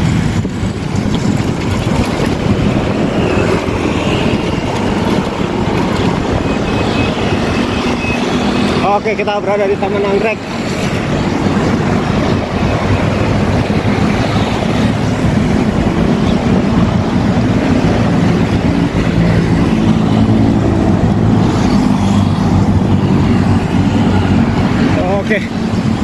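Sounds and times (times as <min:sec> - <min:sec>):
city traffic: 0:00.0 - 0:26.0.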